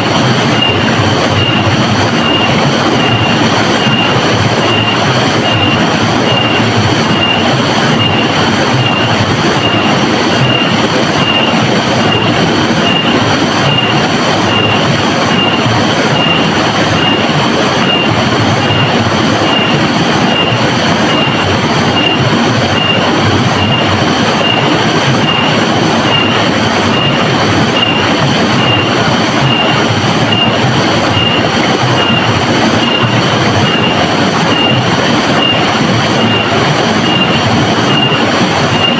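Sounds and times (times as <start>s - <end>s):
high-pitched pulsing tone: 0.0s - 38.9s.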